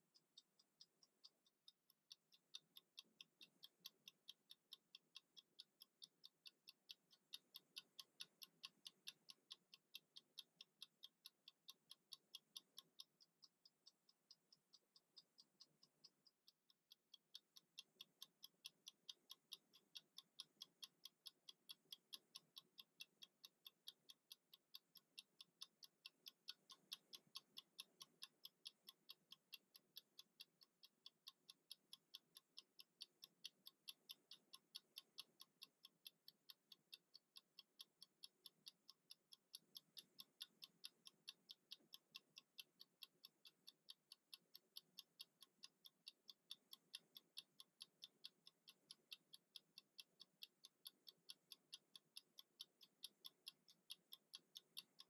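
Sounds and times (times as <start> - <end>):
kitchen timer ticking: 0.0 - 55.0.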